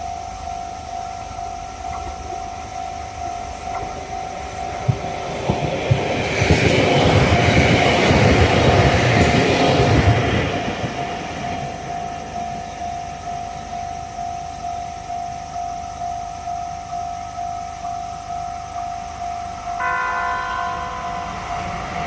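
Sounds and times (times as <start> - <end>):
level-crossing alarm bell: 0.0 - 22.0
train rumbling past: 0.0 - 22.0.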